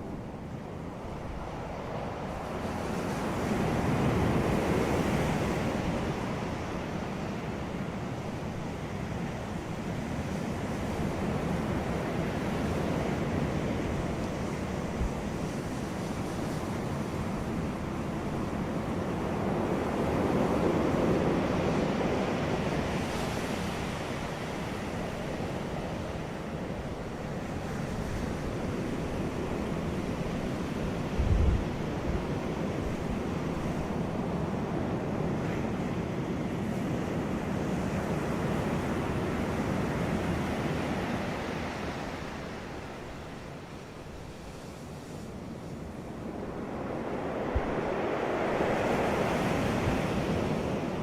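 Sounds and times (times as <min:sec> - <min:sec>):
sea waves breaking on beach: 0:01.6 - 0:51.0.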